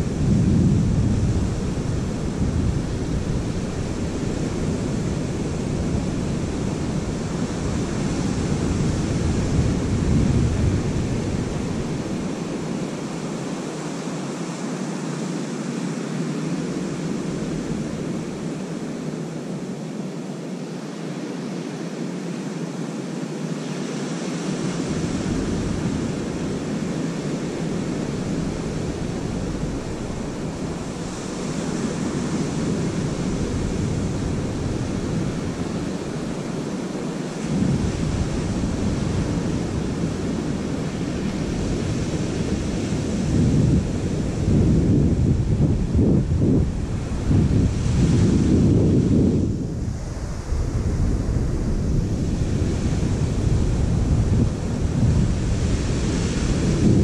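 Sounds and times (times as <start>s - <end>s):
wind buffeting microphone: 0.0s - 20.0s, 24.0s - 57.0s
waves breaking on sandy beach: 0.0s - 57.0s.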